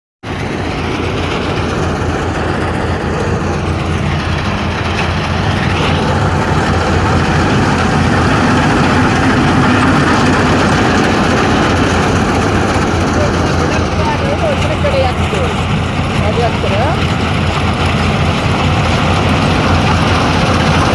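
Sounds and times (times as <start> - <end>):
engine humming: 0.2 - 20.9.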